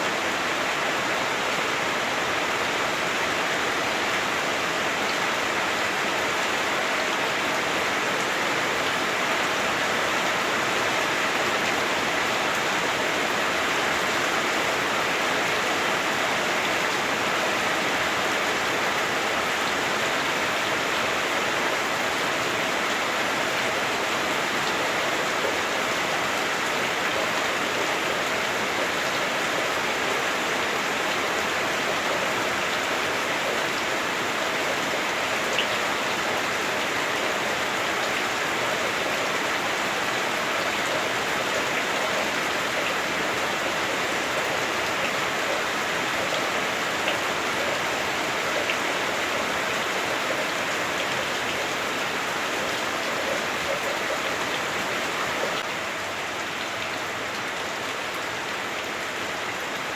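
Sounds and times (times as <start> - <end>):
heavy rain on a roof muffled: 0.0 - 59.9.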